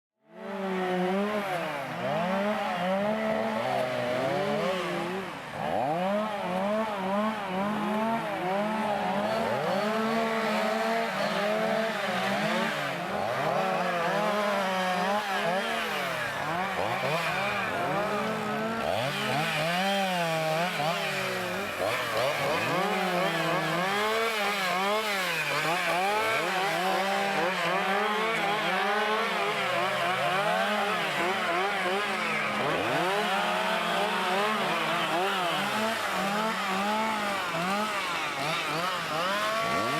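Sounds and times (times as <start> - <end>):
chainsaw engine cutting wood: 0.2 - 39.9.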